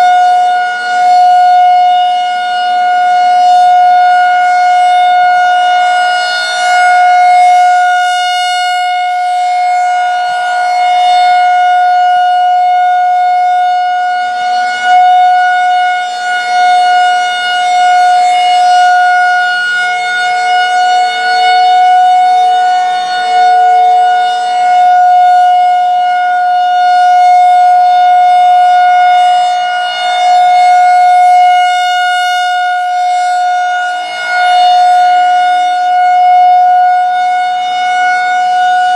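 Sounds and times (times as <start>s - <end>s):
rotating warning siren steady tone: 0.0s - 38.9s.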